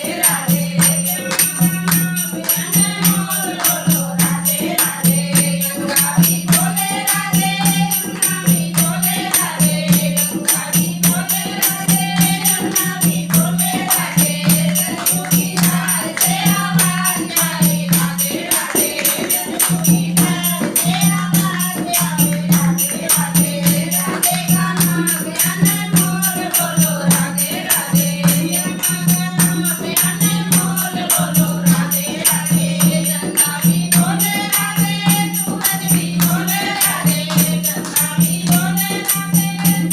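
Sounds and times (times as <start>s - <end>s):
hand drum beat: 0.0s - 39.9s
jingling percussion: 0.0s - 39.9s
voices singing devotional song: 0.0s - 39.9s.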